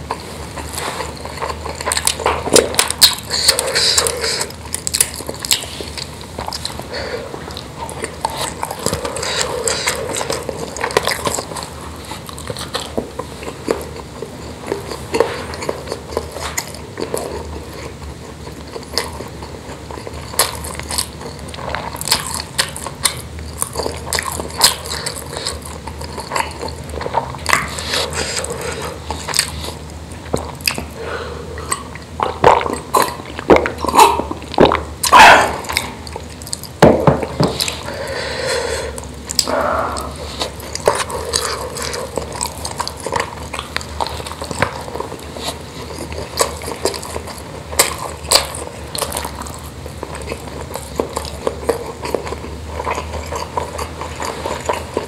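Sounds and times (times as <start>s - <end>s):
chewing with wet mouth clicks: 0.0s - 38.2s, 38.9s - 55.0s.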